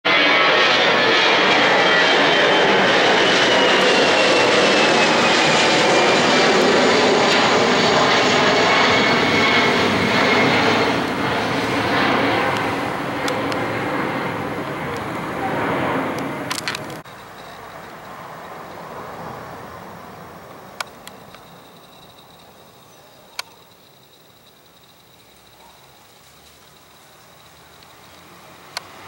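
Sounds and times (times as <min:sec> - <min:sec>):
jet engines roaring overhead: 0:00.0 - 0:25.1, 0:26.7 - 0:29.0.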